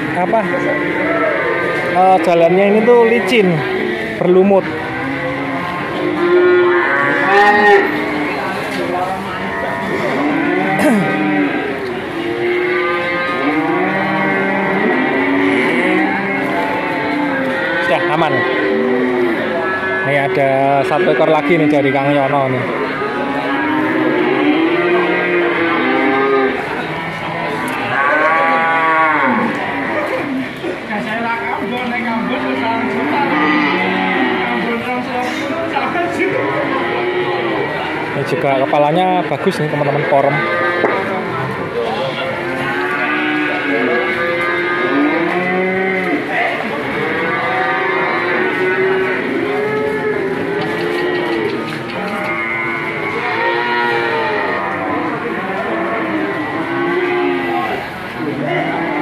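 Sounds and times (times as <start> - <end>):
cattle mooing: 0.0 - 30.8, 32.1 - 59.0.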